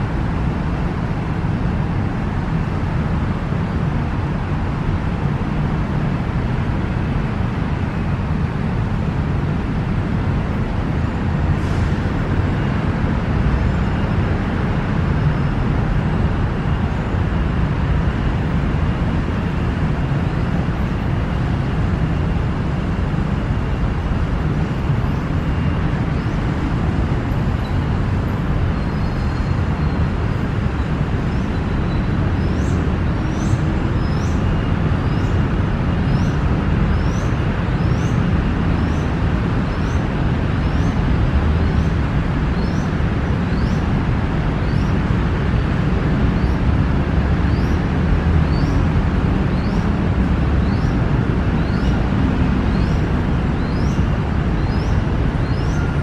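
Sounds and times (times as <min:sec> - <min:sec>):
city road traffic rumble: 0:00.0 - 0:56.0.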